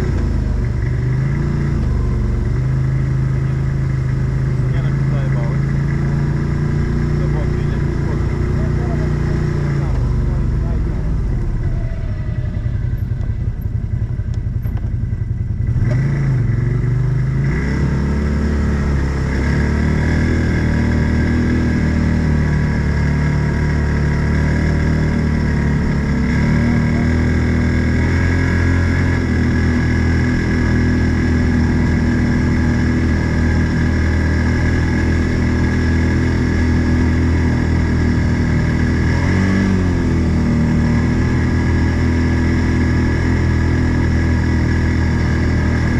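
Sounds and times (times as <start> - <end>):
off-road vehicle engine revving: 0.0 - 45.9.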